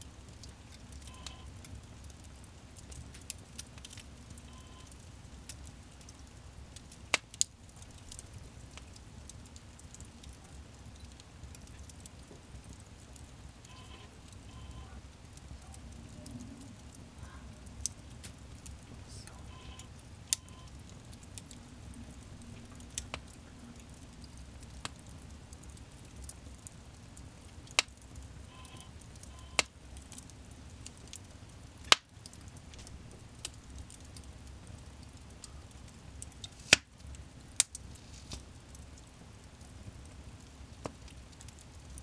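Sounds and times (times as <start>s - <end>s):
burning wood popping and crackling: 0.0s - 42.0s
fire flames rumbling: 0.0s - 42.0s.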